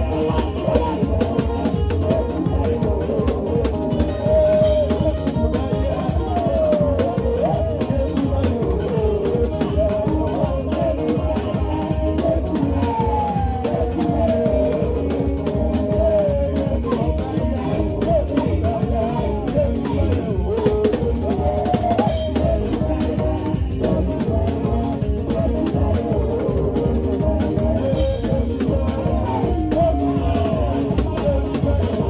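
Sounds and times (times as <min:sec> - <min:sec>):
drum kit with fast cymbal strokes: 0:00.0 - 0:32.0
electric bass: 0:00.0 - 0:32.0
sliding lead melody: 0:00.0 - 0:32.0.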